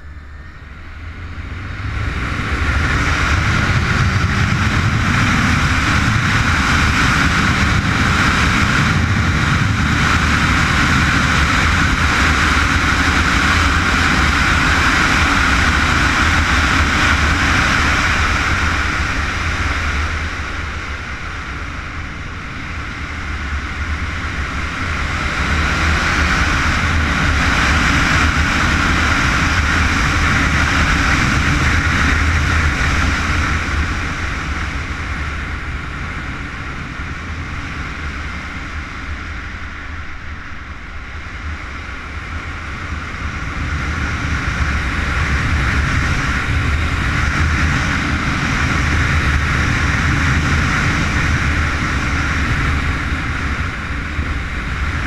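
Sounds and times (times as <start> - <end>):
motorcycle engine running hard: 0.0 - 55.0.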